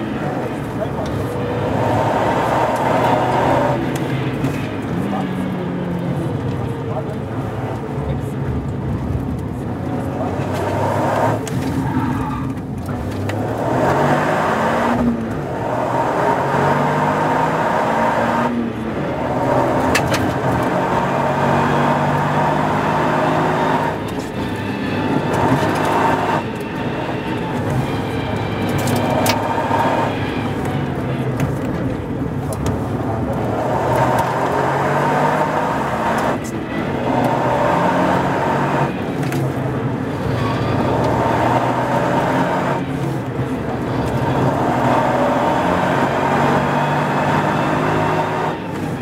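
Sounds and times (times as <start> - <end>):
car engine accelerating: 0.0 - 49.0
road and tyre noise: 0.0 - 49.0.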